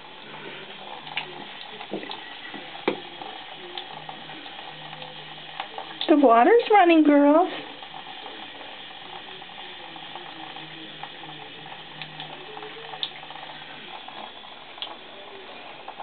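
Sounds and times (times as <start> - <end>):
faucet water pouring into tub: 0.0 - 16.0.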